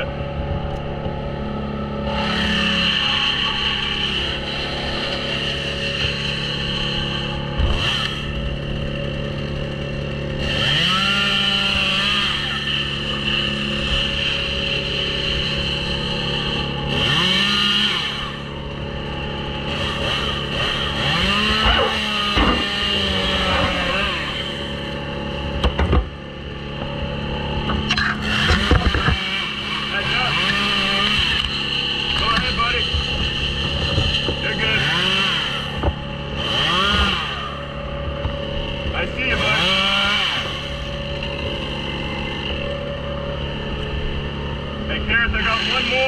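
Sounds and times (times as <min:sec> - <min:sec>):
steady engine drone: 0:00.0 - 0:46.0
chainsaw revving: 0:01.1 - 0:46.0.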